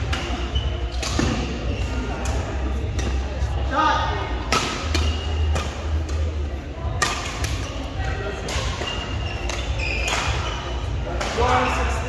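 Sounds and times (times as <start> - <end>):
rackets striking shuttlecock: 0.0 - 3.3, 4.4 - 11.6.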